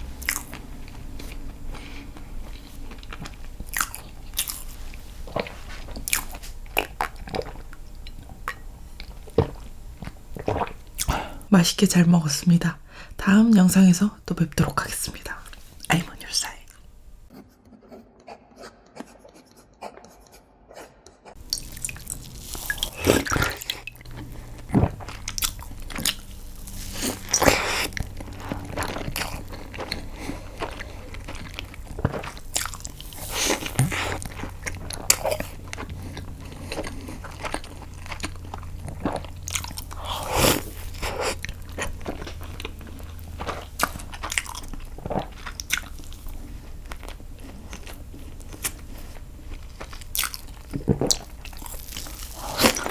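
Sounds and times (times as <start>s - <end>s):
low steady hum: 0.0s - 17.3s, 21.4s - 52.9s
biting and chewing: 0.2s - 11.3s, 16.7s - 52.9s.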